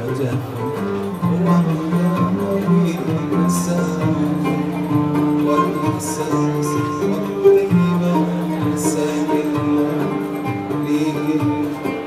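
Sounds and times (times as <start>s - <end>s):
plucked strings: 0.0s - 12.0s
bass line: 0.6s - 12.0s.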